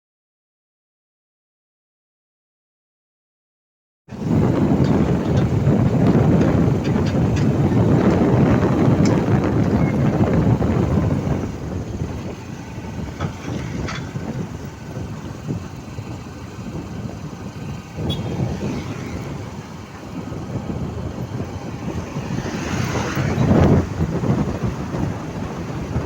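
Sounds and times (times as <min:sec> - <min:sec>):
vehicle rumble: 0:04.1 - 0:26.0
wind buffeting the microphone: 0:04.1 - 0:26.0.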